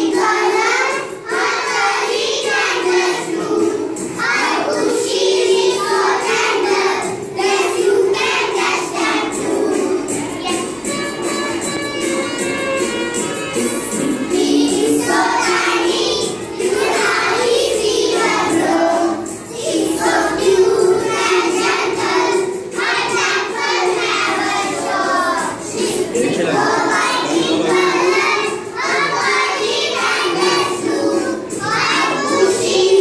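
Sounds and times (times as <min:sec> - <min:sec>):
children singing together: 0:00.0 - 0:33.0.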